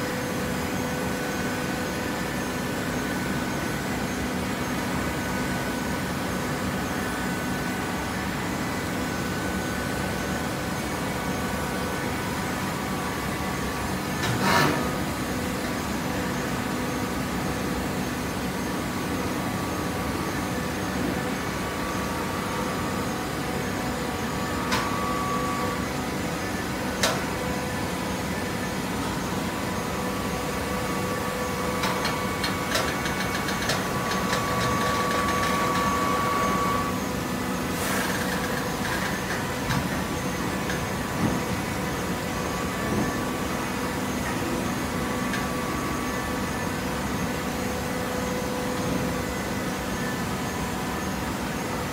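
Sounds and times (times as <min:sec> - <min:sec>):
baler hydraulic hum and whine: 0:00.0 - 0:51.9.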